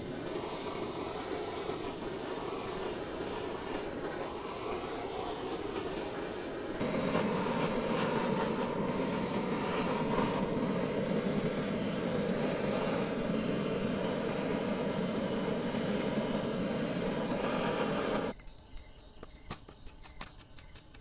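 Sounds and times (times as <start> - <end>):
steady rushing noise: 0.0 - 18.4.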